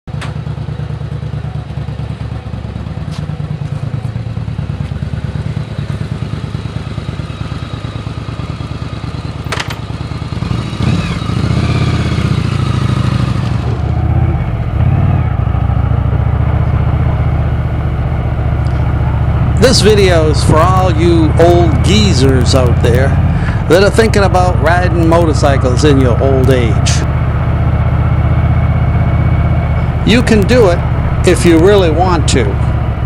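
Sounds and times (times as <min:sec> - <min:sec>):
motorcycle engine idling and revving: 0:00.1 - 0:33.0.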